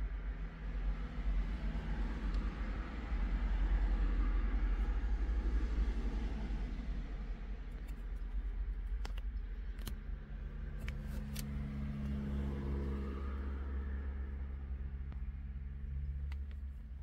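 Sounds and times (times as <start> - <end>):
low hum: 0.0 - 17.0
low rumble in car cabin: 0.0 - 17.0.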